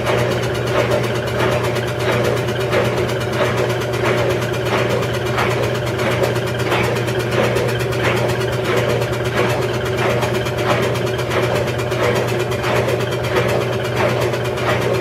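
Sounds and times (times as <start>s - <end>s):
washing machine hum: 0.0s - 15.0s.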